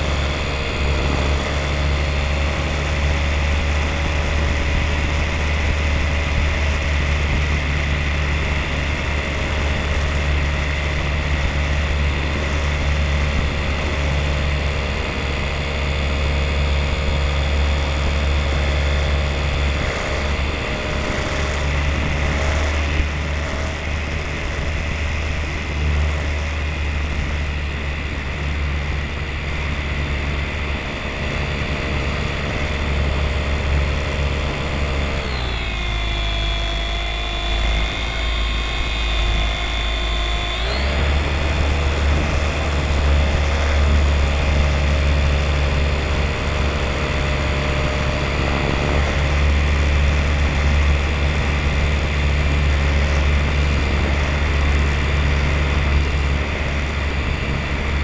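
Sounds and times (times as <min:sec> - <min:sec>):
model airplane motor and propeller: 0:00.0 - 0:58.0
wind rumble on microphone: 0:00.0 - 0:58.0.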